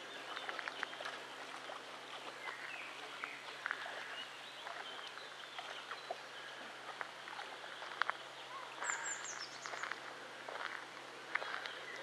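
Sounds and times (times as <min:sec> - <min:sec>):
small birds chirping: 0:00.0 - 0:10.7.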